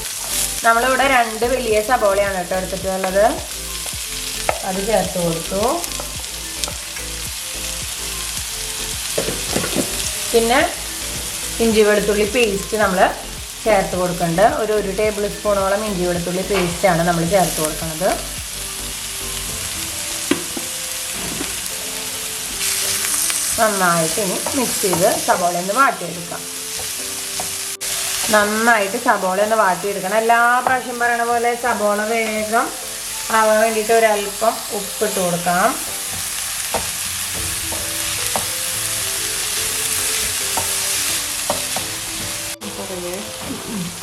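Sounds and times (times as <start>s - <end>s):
onions sizzling in oil: 0.0s - 44.0s.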